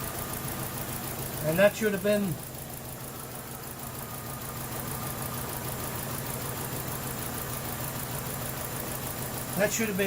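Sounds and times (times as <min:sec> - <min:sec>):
car engine idling with misfire: 0:00.0 - 0:10.0.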